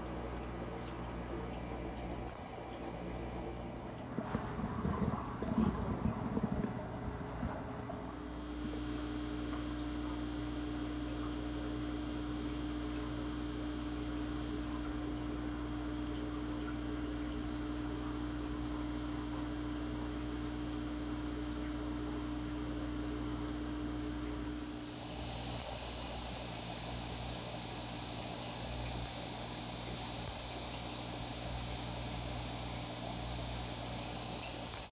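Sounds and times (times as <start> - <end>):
aquarium pump hum: 0.0 - 34.9
faint water noise: 0.0 - 34.9.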